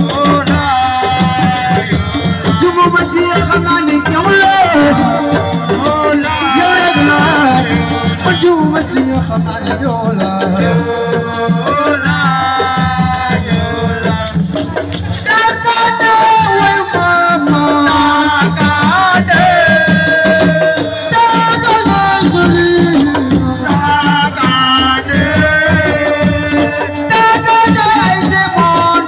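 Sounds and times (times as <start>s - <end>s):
hand drums: 0.0s - 29.0s.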